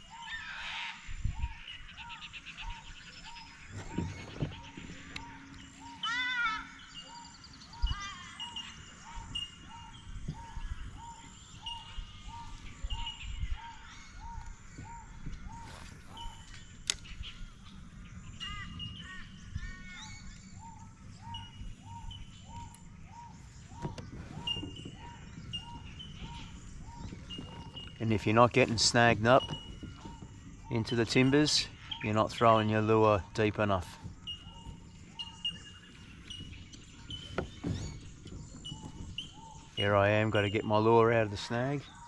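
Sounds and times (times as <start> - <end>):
high whistled bird chirps: 0.0 - 42.0.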